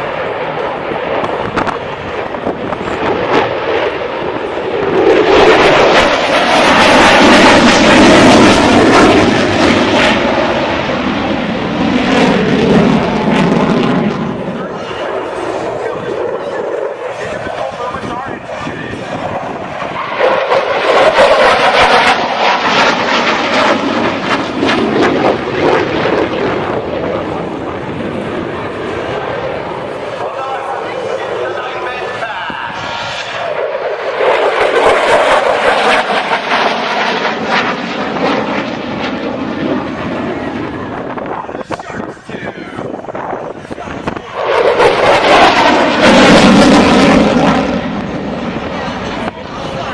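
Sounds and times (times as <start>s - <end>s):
aircraft flying past: 0.0s - 49.9s
airplane engine: 0.0s - 49.9s.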